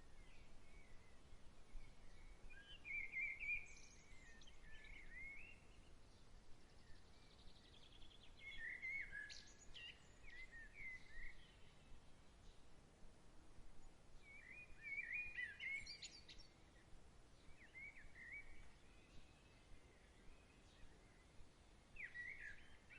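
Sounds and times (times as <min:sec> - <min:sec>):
faint outdoor background: 0:00.0 - 0:22.9
songbirds singing: 0:00.0 - 0:22.9.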